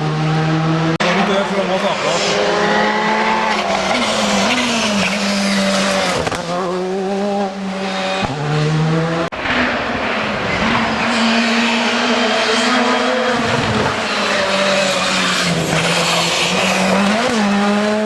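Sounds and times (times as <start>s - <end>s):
rally car engine at high revs: 0.0s - 18.0s.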